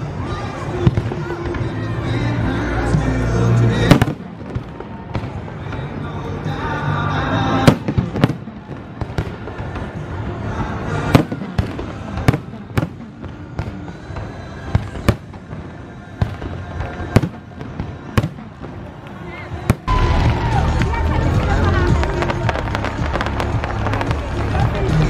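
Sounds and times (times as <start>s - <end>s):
fireworks bangs: 0.0s - 6.7s, 7.4s - 25.0s.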